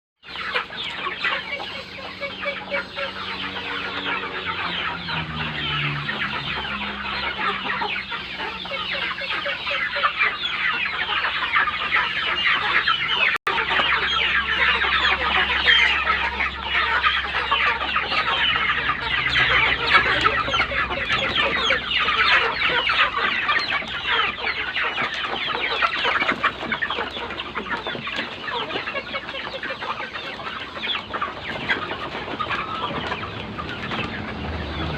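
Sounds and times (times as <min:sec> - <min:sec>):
flock of chickens clucking: 0:00.2 - 0:34.9.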